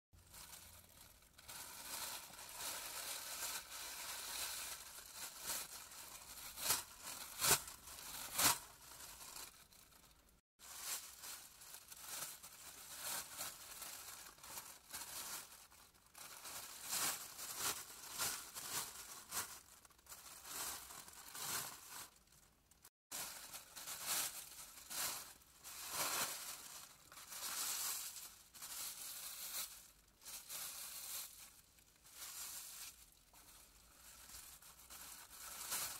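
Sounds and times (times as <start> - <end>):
plastic bag crinkling: 0.2 - 35.9.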